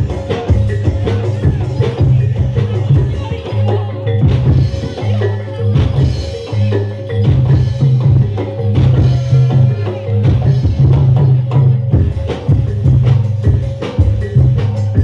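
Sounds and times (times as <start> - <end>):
drums in busy pattern: 0.0 - 15.0.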